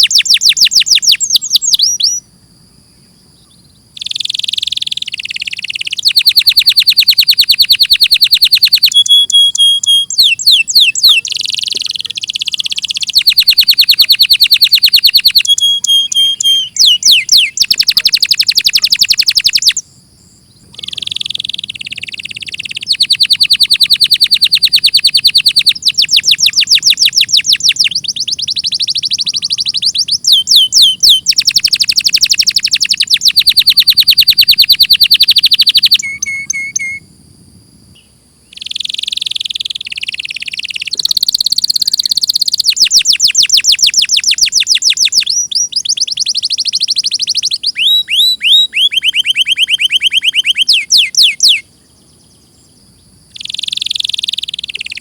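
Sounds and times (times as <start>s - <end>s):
canary singing trills: 0.0s - 37.2s, 37.9s - 55.0s.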